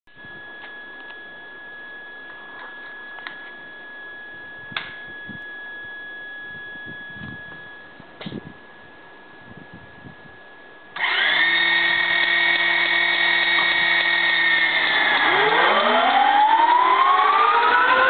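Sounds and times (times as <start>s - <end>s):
steady high-pitched tone: 0.1s - 18.0s.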